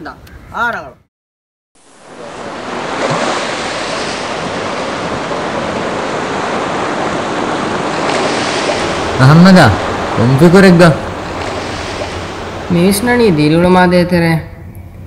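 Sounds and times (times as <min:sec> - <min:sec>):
ocean surf: 0:01.8 - 0:14.0.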